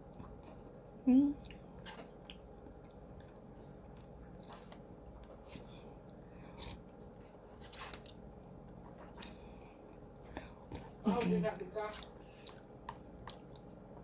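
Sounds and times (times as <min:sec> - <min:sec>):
person chewing food: 0:00.0 - 0:11.0, 0:11.9 - 0:14.0.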